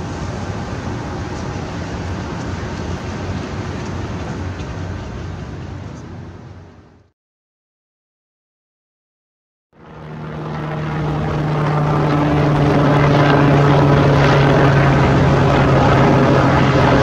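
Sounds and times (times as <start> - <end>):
city rumble: 0.0 - 7.1, 9.8 - 17.0.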